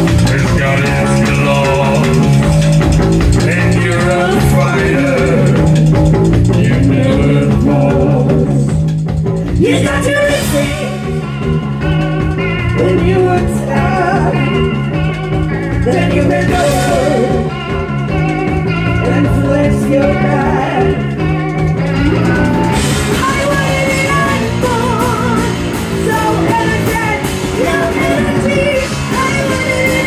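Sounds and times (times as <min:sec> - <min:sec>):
person singing: 0:00.0 - 0:08.8, 0:09.5 - 0:11.3, 0:12.6 - 0:14.9, 0:15.7 - 0:17.8, 0:18.7 - 0:30.0
live rock band playing: 0:00.0 - 0:30.0.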